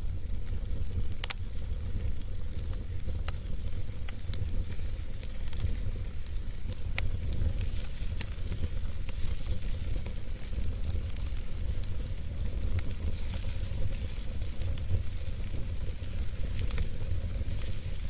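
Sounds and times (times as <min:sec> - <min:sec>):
fire crackling and popping: 0:00.0 - 0:18.0
fire rumbling: 0:00.0 - 0:18.0.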